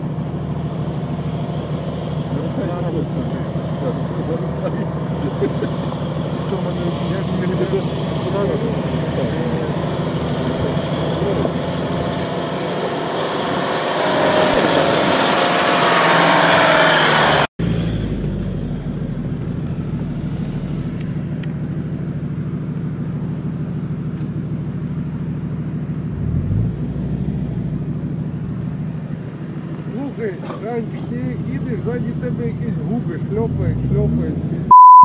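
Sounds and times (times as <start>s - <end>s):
engine revving: 0.0s - 23.2s, 24.9s - 34.7s
off-road engines running: 0.0s - 34.7s.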